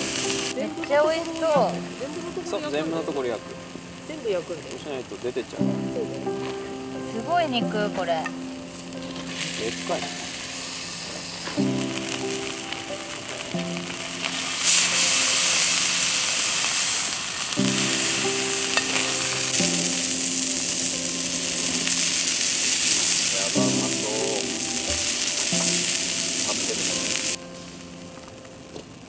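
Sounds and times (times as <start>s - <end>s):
background music: 0.0s - 29.0s
chicken sizzling in a pan: 0.0s - 29.0s.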